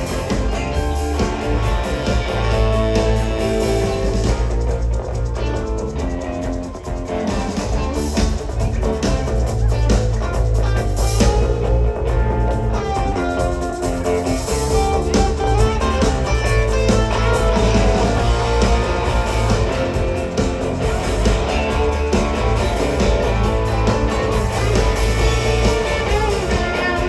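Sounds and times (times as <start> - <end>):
electric guitars: 0.0 - 27.0
live rock band playing: 0.0 - 27.0.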